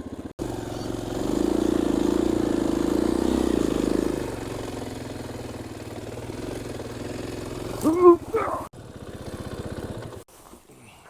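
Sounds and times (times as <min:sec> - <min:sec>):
dirt bike engine revving and idling: 0:00.0 - 0:10.3.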